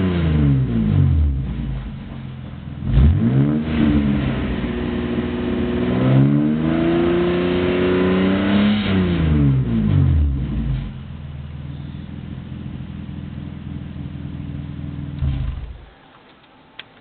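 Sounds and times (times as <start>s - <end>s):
car engine revving: 0.0s - 11.2s, 12.1s - 15.9s.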